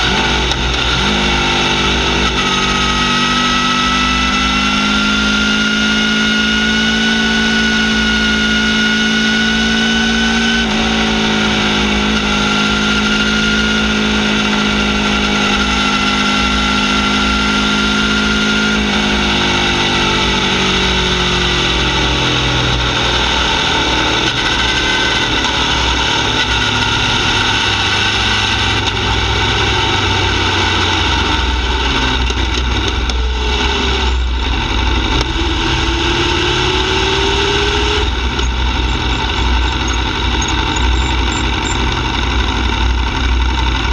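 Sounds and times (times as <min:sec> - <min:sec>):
motorcycle engine riding: 0:00.0 - 0:43.9.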